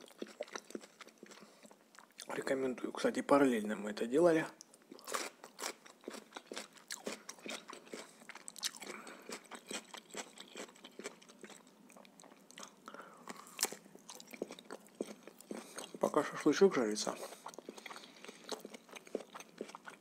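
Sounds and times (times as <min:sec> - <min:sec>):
man chewing crunchy food: 0:00.0 - 0:02.3, 0:04.6 - 0:20.0.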